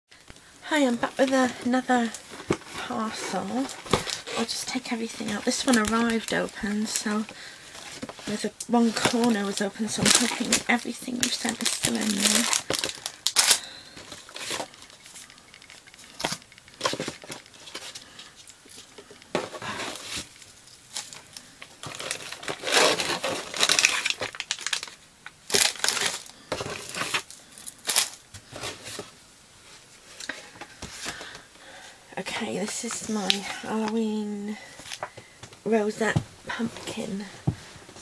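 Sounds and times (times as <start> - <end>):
plastic and paper crinkling: 0.8 - 31.5, 32.2 - 35.3.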